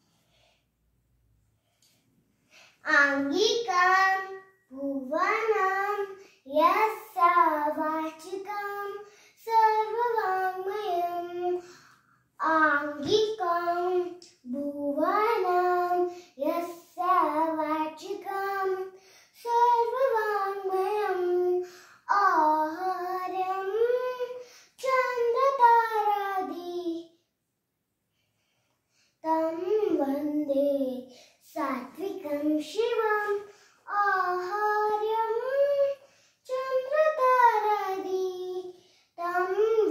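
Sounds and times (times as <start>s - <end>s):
girl singing unaccompanied: 2.6s - 27.2s, 29.1s - 39.9s.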